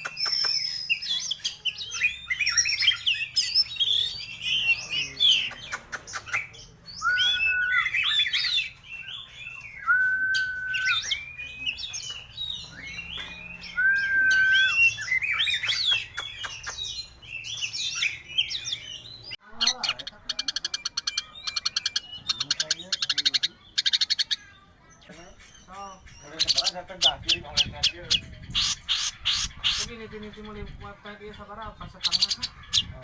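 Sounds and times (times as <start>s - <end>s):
bird singing chirps and trills: 0.0s - 33.0s.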